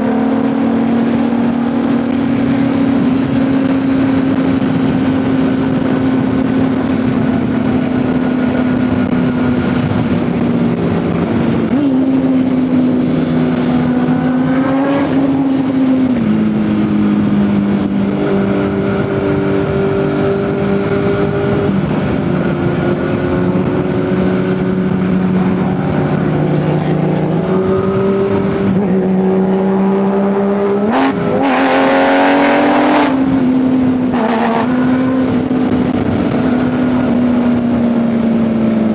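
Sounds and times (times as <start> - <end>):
motorcycle engine cruising and revving: 0.0 - 38.9.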